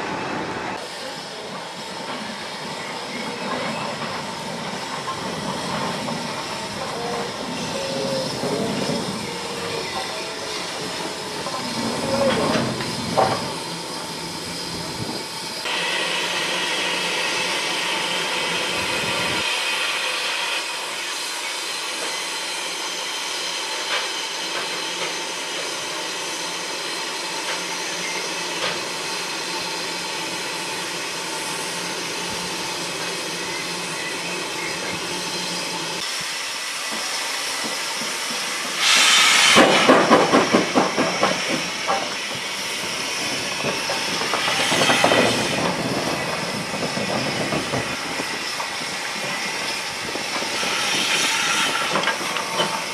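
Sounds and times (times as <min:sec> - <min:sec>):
steam hissing: 0:00.0 - 0:52.9.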